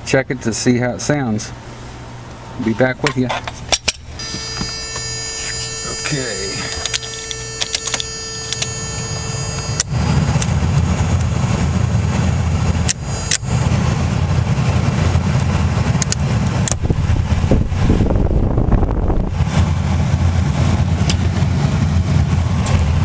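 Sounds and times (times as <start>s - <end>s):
heater blower low rumble: 0.0s - 23.0s.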